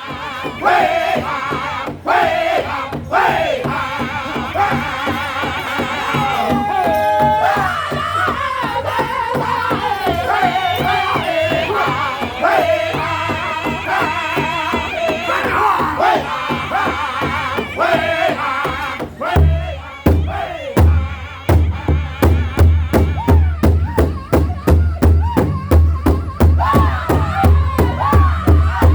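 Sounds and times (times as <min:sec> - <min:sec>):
high wavering group singing: 0:00.0 - 0:28.9
bass drum beat: 0:03.0 - 0:28.9.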